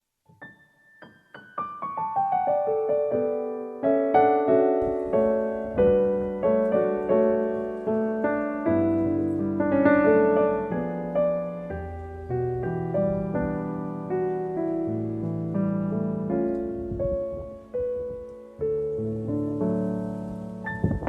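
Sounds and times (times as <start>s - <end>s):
piano music: 0.3s - 21.0s.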